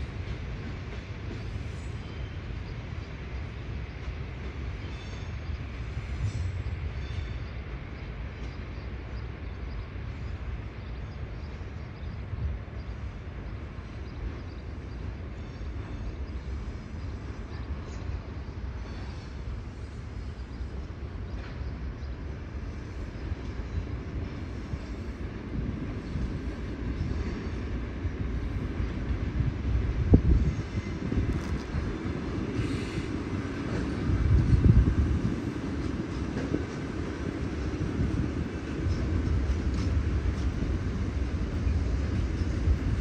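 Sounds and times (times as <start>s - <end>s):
electric train rumbling: 0.0s - 43.0s.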